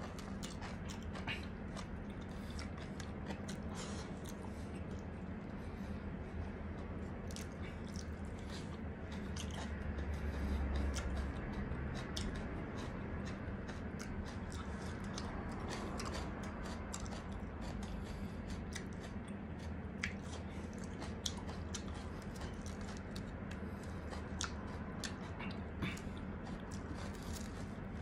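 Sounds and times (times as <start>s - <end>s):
chewing fried chicken: 0.0s - 28.0s
low hum: 0.0s - 28.0s.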